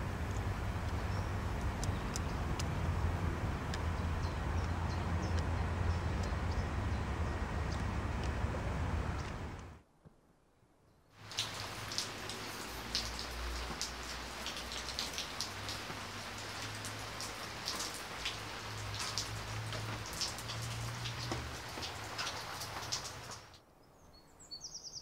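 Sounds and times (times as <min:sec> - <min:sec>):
rain on a wet street: 0:00.0 - 0:09.8, 0:11.2 - 0:23.6
single raindrops ticking: 0:00.2 - 0:08.4, 0:11.2 - 0:23.6.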